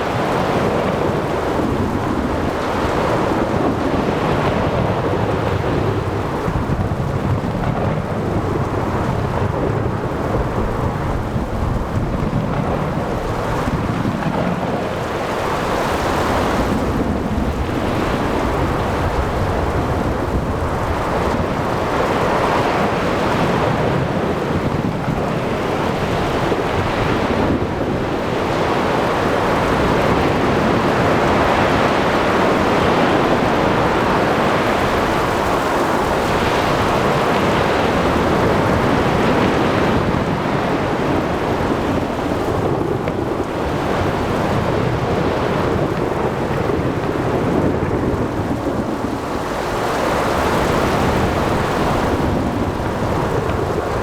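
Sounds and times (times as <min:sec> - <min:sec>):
low rumble of thunder: 0:00.0 - 0:54.0
rain: 0:00.0 - 0:54.0
waves breaking: 0:00.0 - 0:54.0
wind: 0:00.0 - 0:54.0.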